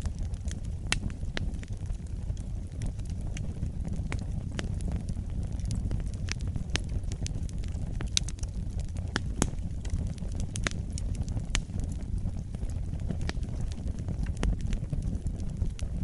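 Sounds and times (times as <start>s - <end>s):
fire crackling in fireplace: 0.0s - 16.0s.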